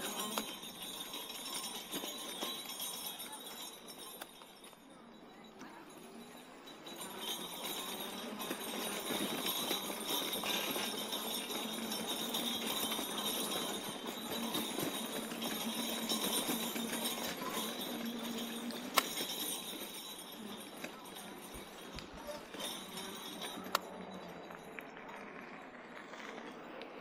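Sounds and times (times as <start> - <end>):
trike rattling over bumpy trail: 0.0 - 27.0.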